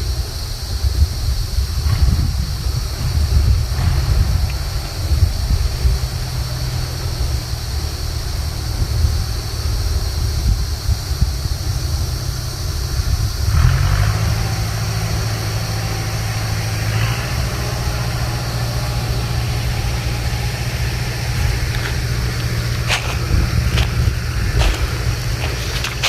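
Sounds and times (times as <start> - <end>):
cicada buzzing: 0.0 - 26.0
low rumbling hum: 0.0 - 26.0.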